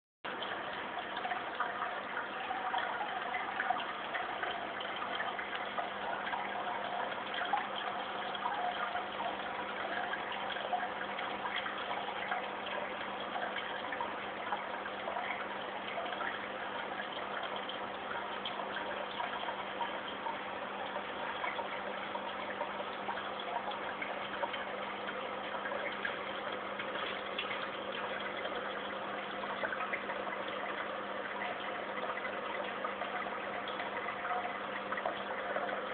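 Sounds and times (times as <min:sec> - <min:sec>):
aquarium water splashing and bubbling: 0:00.2 - 0:35.9
pump humming: 0:00.2 - 0:35.9.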